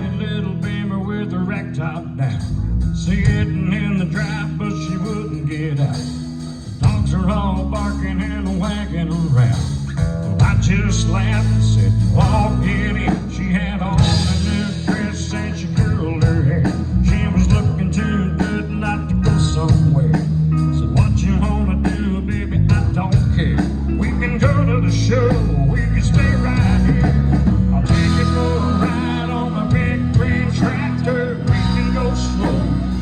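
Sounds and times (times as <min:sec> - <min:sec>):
bass guitar: 0:00.0 - 0:33.0
electric guitar: 0:00.0 - 0:33.0
steady drum beat: 0:02.4 - 0:33.0.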